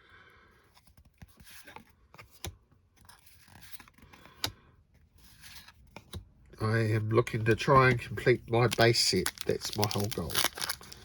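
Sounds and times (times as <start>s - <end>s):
cards rustling and scraping: 0.6s - 6.3s, 7.4s - 11.0s.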